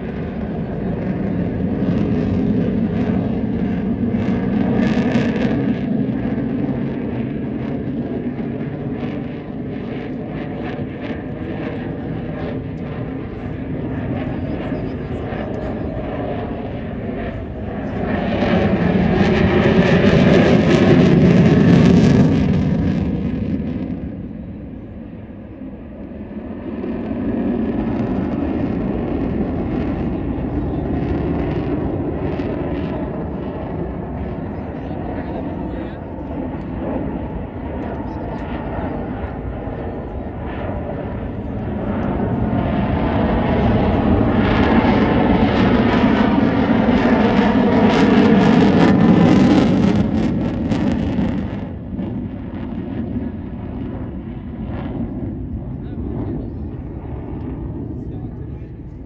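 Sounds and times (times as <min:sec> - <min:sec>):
military aircraft flying over: 0:00.0 - 0:59.0.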